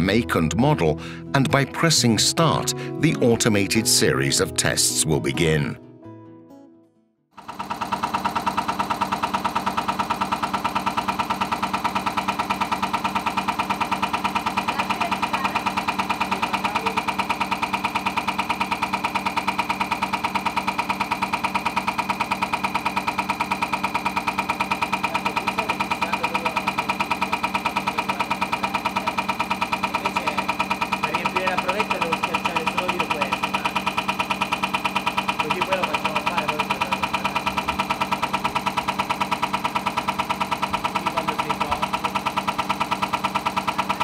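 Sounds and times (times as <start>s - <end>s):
rapid mechanical clatter: 7.4s - 44.0s.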